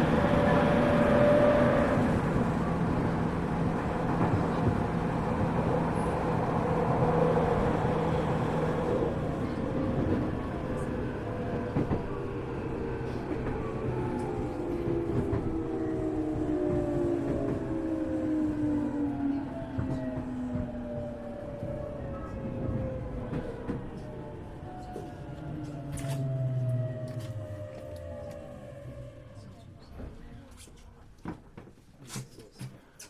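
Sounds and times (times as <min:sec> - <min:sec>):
train wheel and rail noise: 0:00.0 - 0:33.0.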